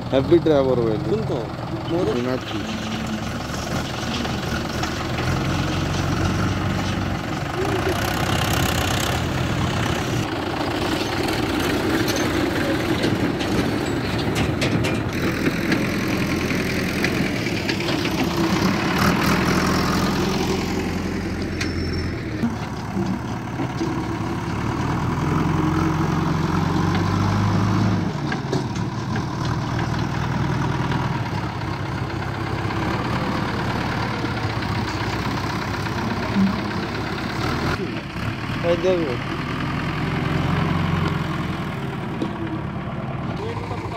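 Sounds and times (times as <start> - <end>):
diesel engines working: 0.0 - 43.9.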